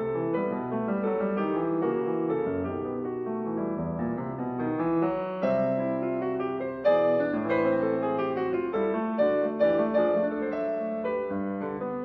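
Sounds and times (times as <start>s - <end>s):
slow piano piece: 0.0s - 12.0s.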